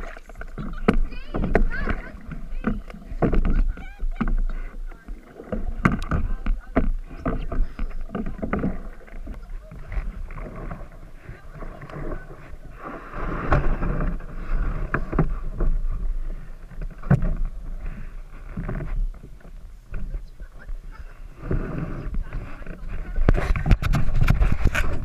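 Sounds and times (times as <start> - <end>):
water lapping at canoe hull: 0.0 - 25.0
wind rumble on microphone: 0.0 - 25.0.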